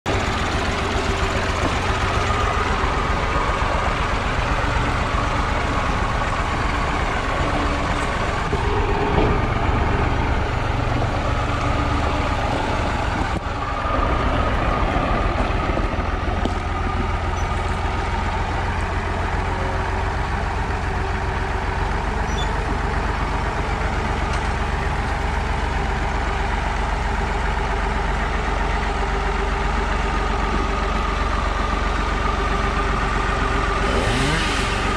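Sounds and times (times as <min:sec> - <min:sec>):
tractor diesel engine running: 0:00.0 - 0:34.9
tractor driving on gravel: 0:00.1 - 0:34.9.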